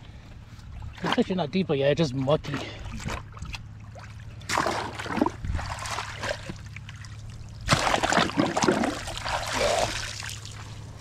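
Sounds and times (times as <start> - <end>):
muddy water splashing: 0.6 - 11.0.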